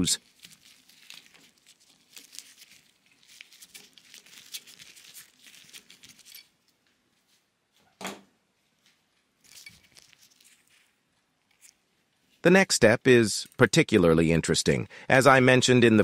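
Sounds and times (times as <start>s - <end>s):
gloved hands handling cables: 0.0s - 13.9s.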